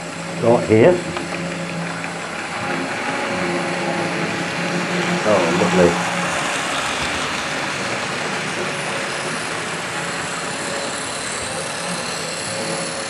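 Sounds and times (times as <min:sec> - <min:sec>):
model train motors whirring: 0:00.0 - 0:13.0
wagons rumbling on track: 0:00.0 - 0:13.0.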